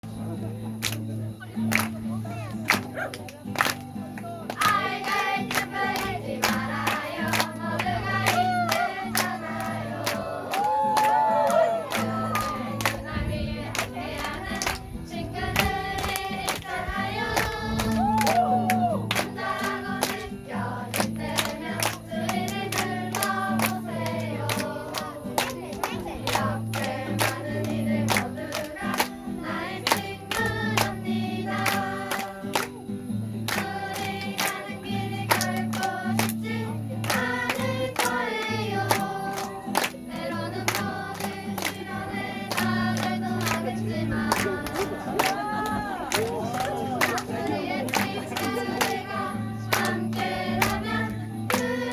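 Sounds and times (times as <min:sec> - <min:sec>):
sharp claps: 0:00.8 - 0:02.0, 0:02.6 - 0:13.1, 0:13.7 - 0:14.9, 0:15.6 - 0:29.2, 0:29.8 - 0:51.9
group of voices singing: 0:04.2 - 0:51.9.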